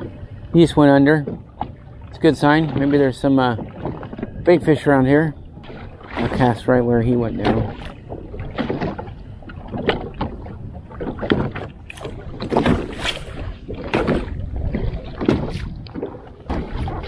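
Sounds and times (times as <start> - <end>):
water slapping boat hull: 0.0 - 17.0
wind rumble on microphone: 0.0 - 17.0.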